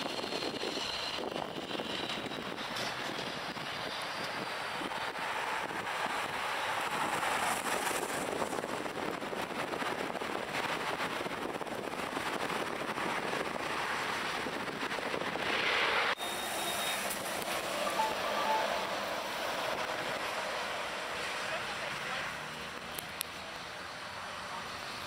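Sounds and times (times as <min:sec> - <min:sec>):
distant jet engines roaring: 0:00.0 - 0:25.0.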